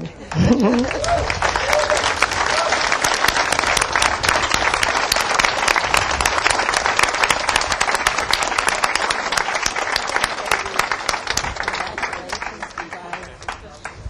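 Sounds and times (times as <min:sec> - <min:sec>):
crowd applauding: 0:00.1 - 0:14.0.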